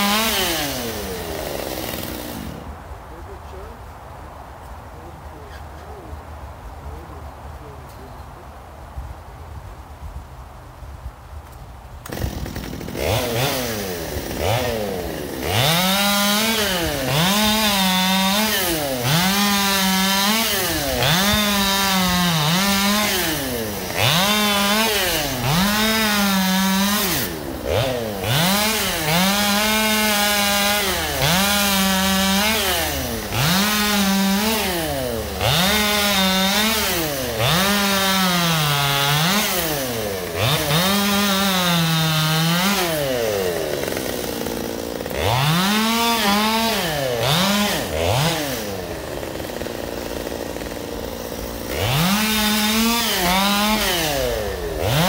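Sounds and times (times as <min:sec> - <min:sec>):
chainsaw revving and cutting: 0:00.0 - 0:02.7, 0:12.0 - 0:55.0.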